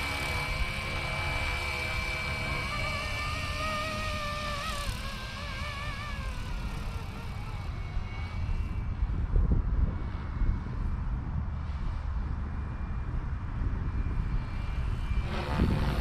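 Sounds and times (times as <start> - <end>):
rc helicopter rotor whine: 0.0 - 16.0.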